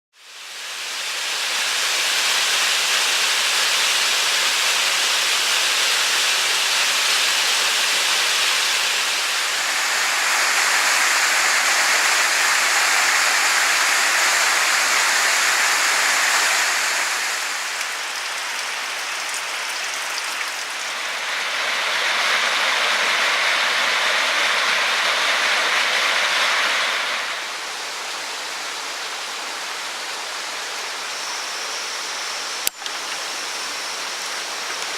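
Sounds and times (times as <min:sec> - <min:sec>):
waterfall rushing and splashing: 0:00.2 - 0:34.9.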